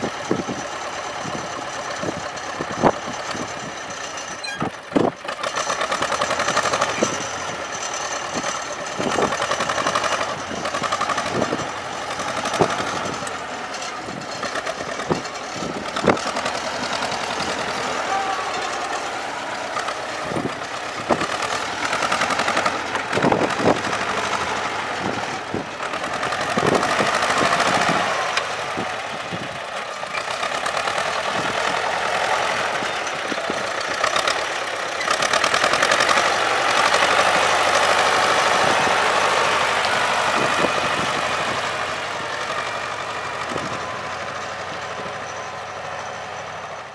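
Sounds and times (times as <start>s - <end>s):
tractor diesel engine driving by: 0.0s - 46.9s.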